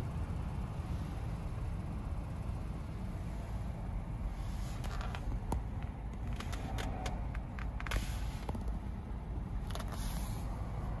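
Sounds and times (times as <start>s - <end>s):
car cabin rumble: 2.2s - 11.0s.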